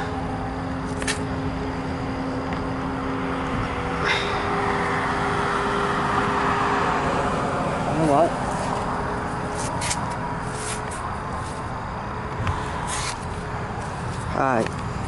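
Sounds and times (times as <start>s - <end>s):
constant hums: 0.0s - 15.0s
engine rumble: 0.0s - 15.0s.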